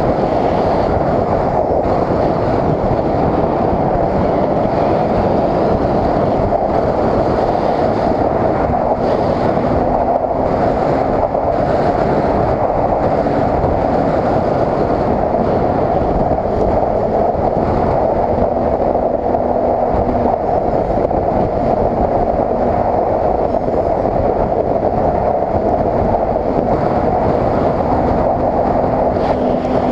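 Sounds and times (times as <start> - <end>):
snowmobile engine and track drone: 0.0 - 29.9.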